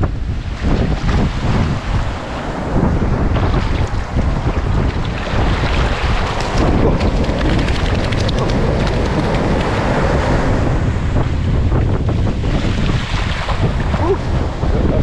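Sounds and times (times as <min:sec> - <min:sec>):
wind buffeting microphone: 0:00.0 - 0:15.0
surf running across sand: 0:00.1 - 0:15.0.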